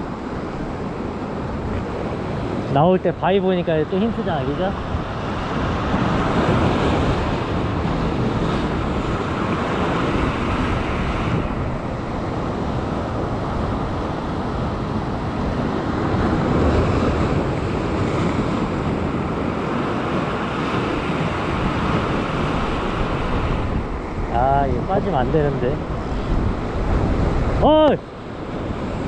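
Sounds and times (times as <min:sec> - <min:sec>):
sea surf breaking on rocks: 0:00.0 - 0:29.0
wind buffeting microphone: 0:00.0 - 0:29.0.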